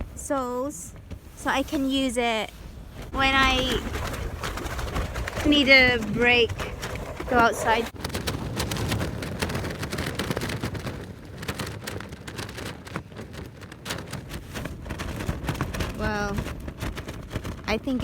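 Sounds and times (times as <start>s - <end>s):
tent fabric flapping and crackling: 0.0s - 18.0s
wind buffeting tent: 0.0s - 18.0s.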